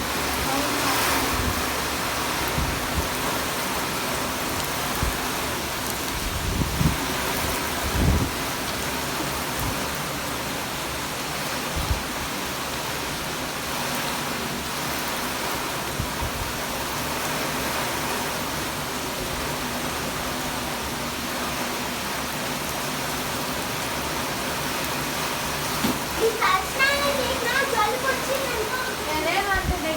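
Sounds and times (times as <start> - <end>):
heavy rain in strong wind: 0.0 - 29.9.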